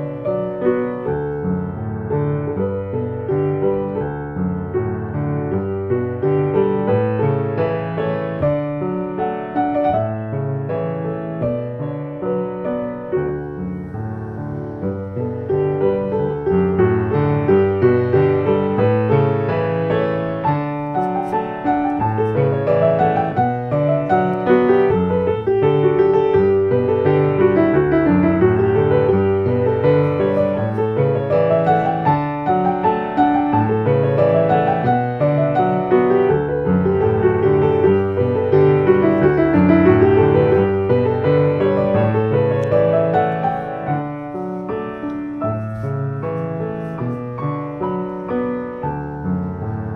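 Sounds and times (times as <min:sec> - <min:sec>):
solo piano music: 0:00.0 - 0:49.9.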